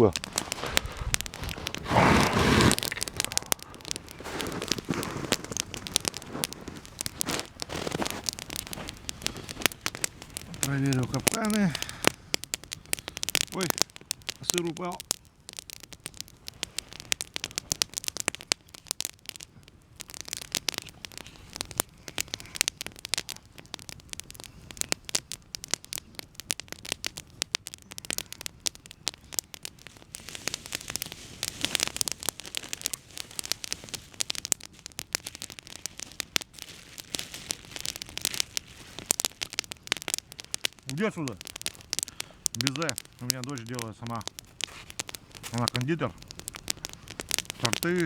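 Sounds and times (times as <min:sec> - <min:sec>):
campfire crackling and popping: 0:00.0 - 0:48.0.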